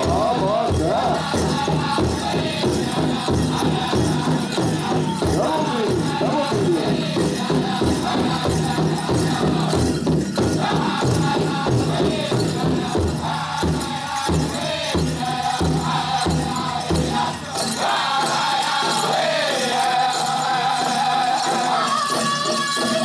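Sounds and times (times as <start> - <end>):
big drum beat: 0.0 - 23.0
group singing in high voices: 0.0 - 23.0.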